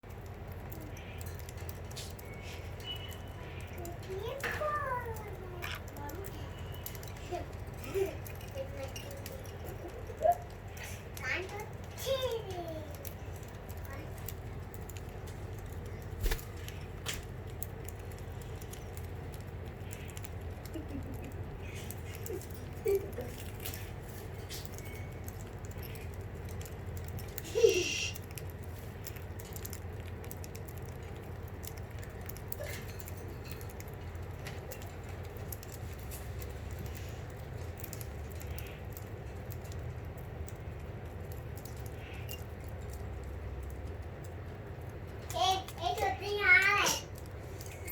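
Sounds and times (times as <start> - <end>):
beaks tapping on seed and cage: 0.0 - 47.9.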